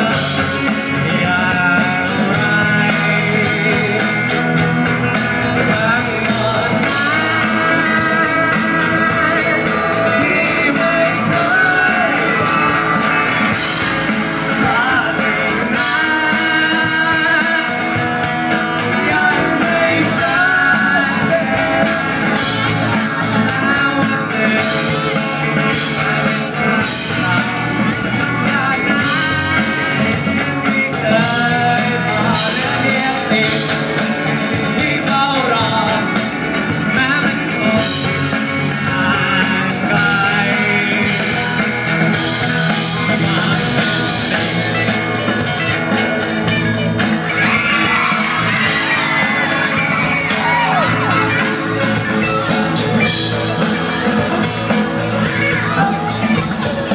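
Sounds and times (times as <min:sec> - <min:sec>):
live rock band playing: 0:00.0 - 0:56.9
man singing: 0:00.0 - 0:56.9.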